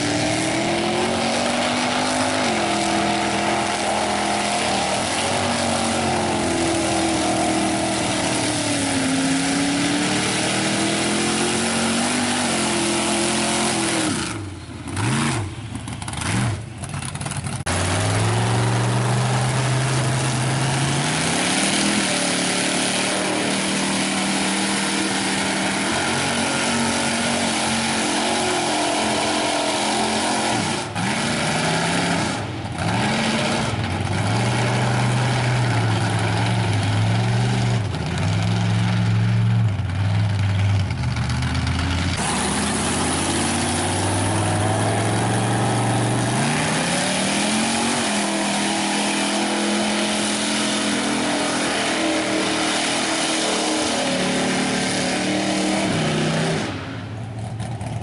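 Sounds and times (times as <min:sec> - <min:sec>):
truck engine revving: 0:00.0 - 0:58.0
tyres spinning through dirt: 0:00.0 - 0:58.0.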